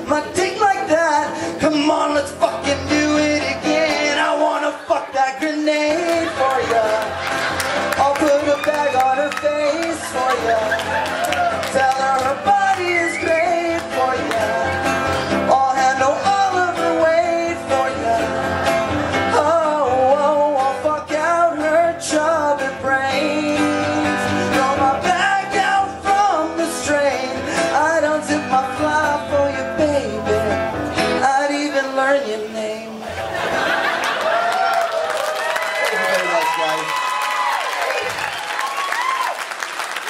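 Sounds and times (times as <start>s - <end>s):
man singing: 0.0s - 33.2s
strummed acoustic guitar: 0.0s - 34.0s.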